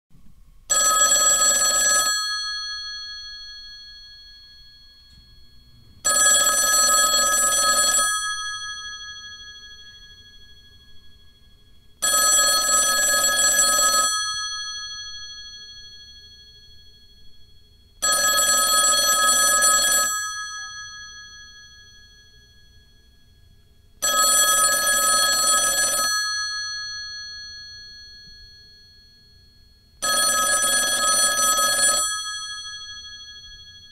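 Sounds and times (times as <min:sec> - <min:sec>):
telephone bell ringing: 0:00.7 - 0:33.9.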